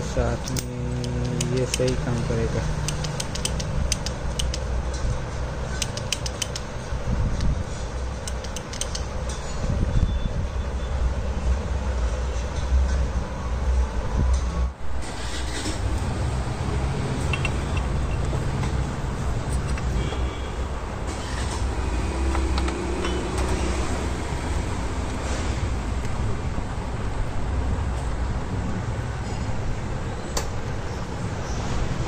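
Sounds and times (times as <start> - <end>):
low vehicle rumble: 0.0 - 32.0.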